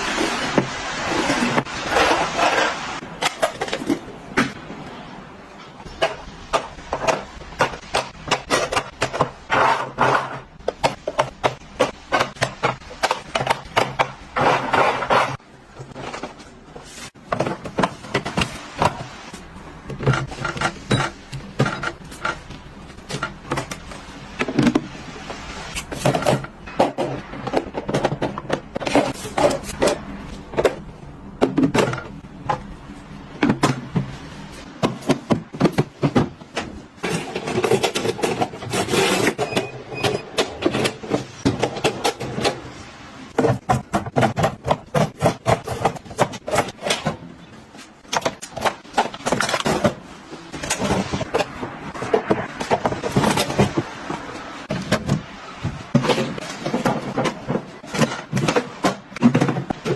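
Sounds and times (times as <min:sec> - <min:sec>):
kitchen items clicking and knocking: 0:00.0 - 0:25.0, 0:25.7 - 0:59.9
kitchen items scraping: 0:00.0 - 0:59.9.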